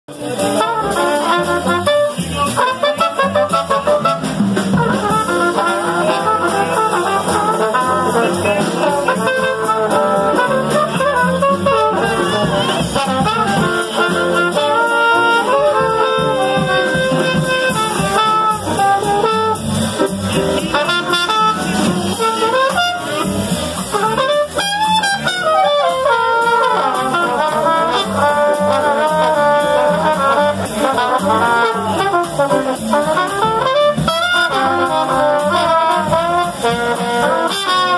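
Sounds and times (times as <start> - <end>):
drums: 0.0 - 37.9
acoustic bass: 0.1 - 37.9
piano: 0.1 - 37.9
trombone and trumpet melody: 0.1 - 37.9.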